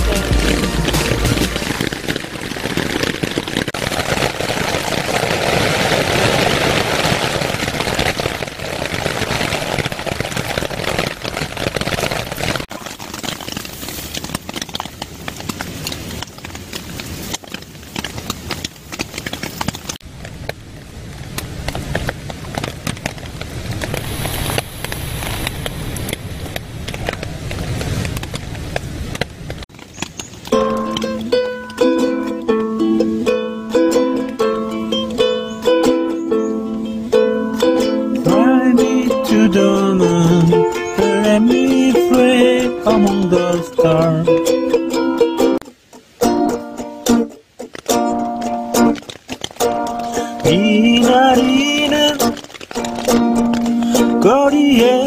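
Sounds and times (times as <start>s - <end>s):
rain on a tent: 0.0s - 55.0s.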